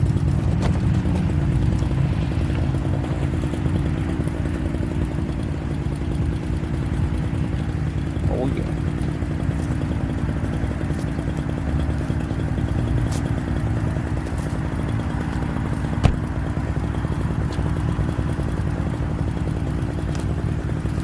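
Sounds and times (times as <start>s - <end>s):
engine rumbling steadily: 0.0s - 21.0s.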